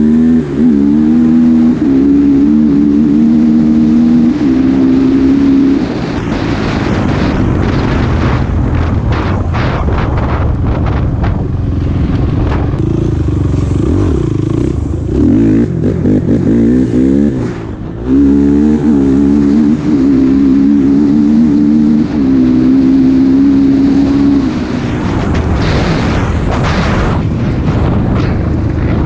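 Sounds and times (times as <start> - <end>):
quad engine revving: 0.0 - 8.2, 11.8 - 27.2
wind buffeting microphone: 0.0 - 29.0.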